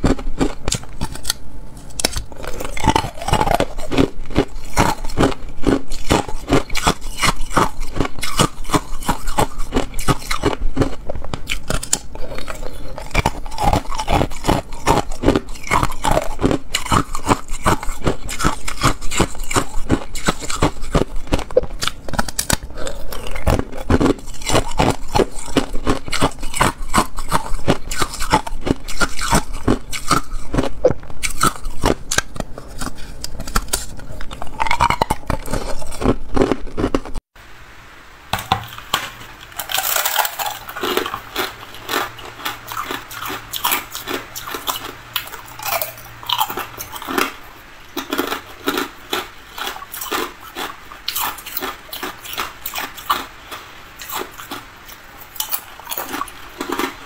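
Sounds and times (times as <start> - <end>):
ice being chewed: 0.0 - 37.2, 38.4 - 57.0.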